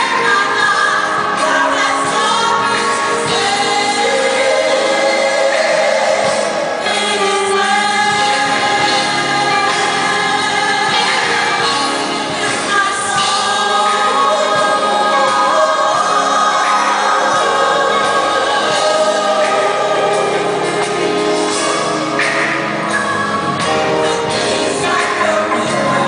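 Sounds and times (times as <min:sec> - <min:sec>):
group of voices singing: 0:00.0 - 0:26.0.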